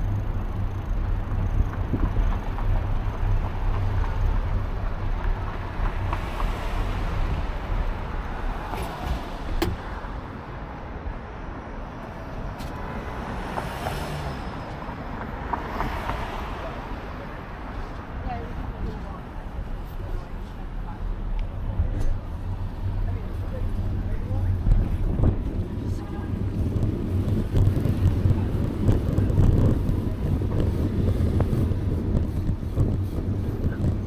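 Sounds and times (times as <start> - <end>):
road rumble from bicycle: 0.0 - 34.0
traffic: 0.0 - 34.0.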